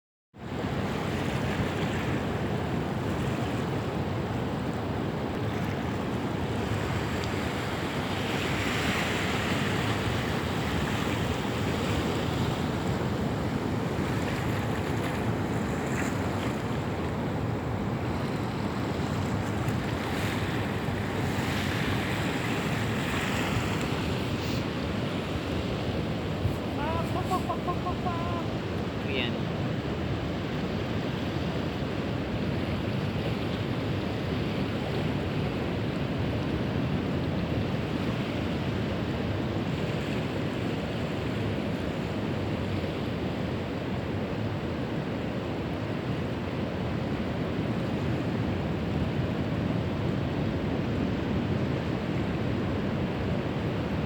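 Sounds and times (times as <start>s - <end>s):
ocean surf washing ashore: 0.4s - 54.0s
waves breaking: 0.4s - 54.0s.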